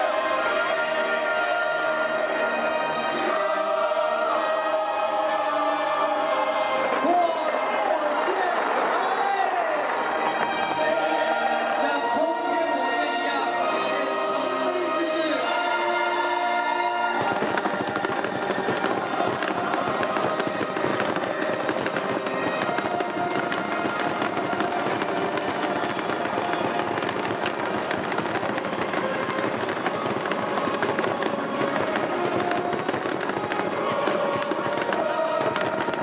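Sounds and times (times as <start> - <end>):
fireworks crackling and banging: 0.0 - 36.0
music: 0.0 - 36.0.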